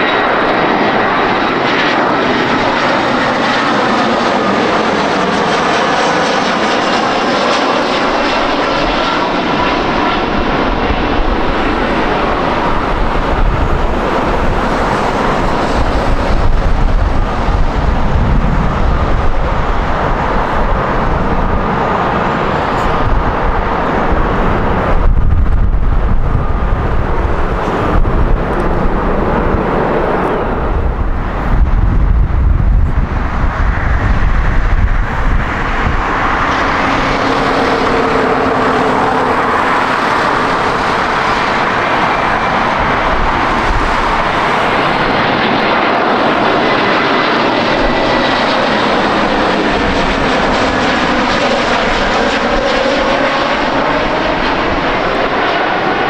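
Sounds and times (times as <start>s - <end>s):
faint engine whine: 0.0s - 56.0s
jet engines rumbling: 0.0s - 56.0s.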